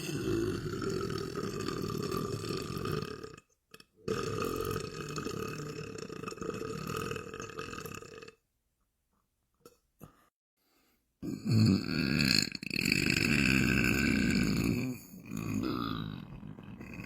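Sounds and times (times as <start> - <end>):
man burping: 0.0 - 8.4, 11.2 - 17.0.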